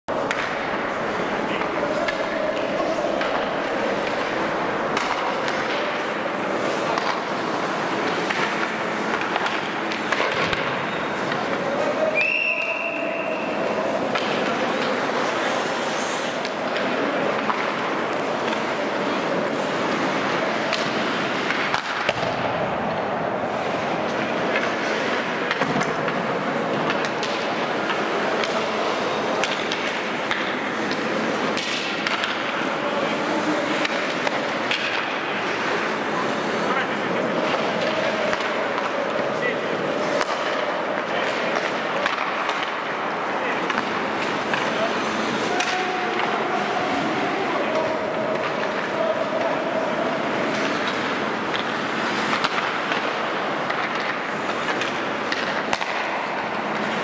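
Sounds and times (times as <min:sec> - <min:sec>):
skate blades scraping ice: 0:00.1 - 0:22.4, 0:23.5 - 0:57.0
hockey sticks and pucks clicking: 0:00.1 - 0:57.0.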